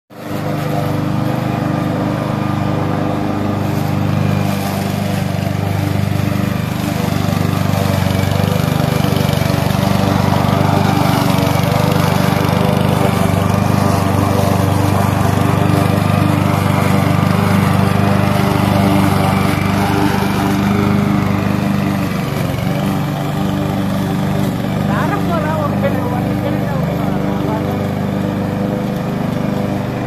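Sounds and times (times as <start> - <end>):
lawn mower engine running: 0.1 - 30.0.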